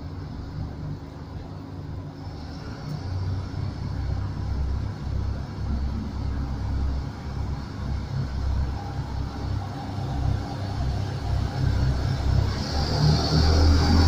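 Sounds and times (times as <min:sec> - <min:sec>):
diesel train engine rumble: 0:00.0 - 0:14.0.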